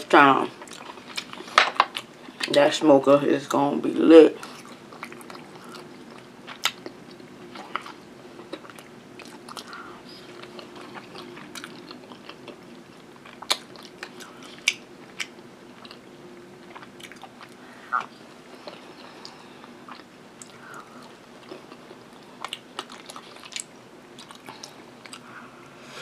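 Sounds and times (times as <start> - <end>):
person chewing food: 0.6 - 2.5, 4.4 - 25.6.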